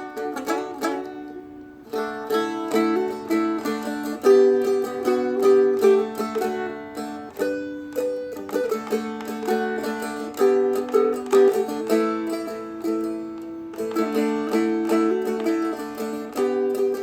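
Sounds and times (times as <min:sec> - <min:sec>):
dulcimer picked country melody: 0:00.0 - 0:17.0.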